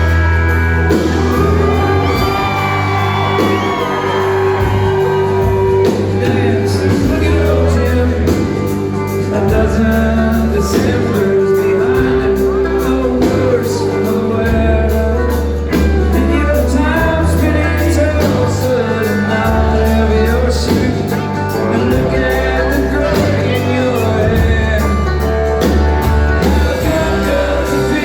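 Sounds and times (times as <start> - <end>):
country band playing: 0.0 - 28.0
drums keeping a beat: 0.0 - 28.0.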